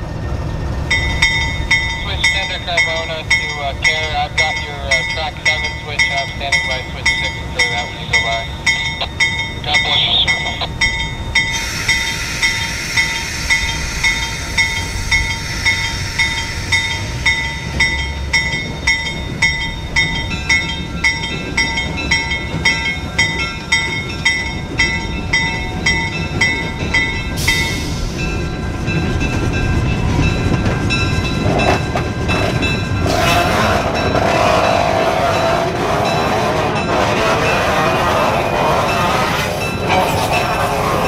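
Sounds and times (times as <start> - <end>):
railroad bell ringing: 0.0 - 41.0
train running: 0.0 - 41.0.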